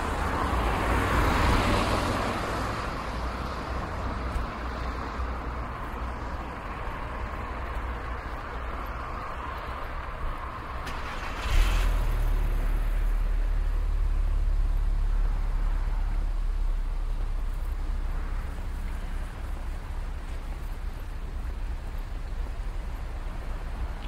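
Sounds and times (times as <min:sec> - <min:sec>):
low engine rumble: 0:00.0 - 0:24.0
passing cars hum: 0:00.0 - 0:24.0.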